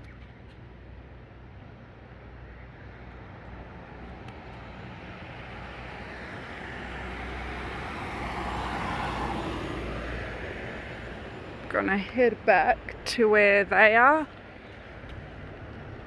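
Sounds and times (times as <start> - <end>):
tyre and road rush: 0.0 - 16.0.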